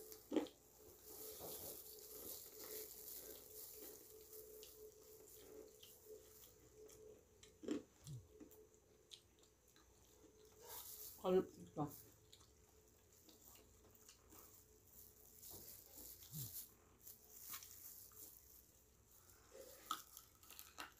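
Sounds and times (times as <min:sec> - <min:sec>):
chewing: 0:00.0 - 0:11.1, 0:12.0 - 0:16.7, 0:17.4 - 0:20.9
low steady hum: 0:00.0 - 0:20.9.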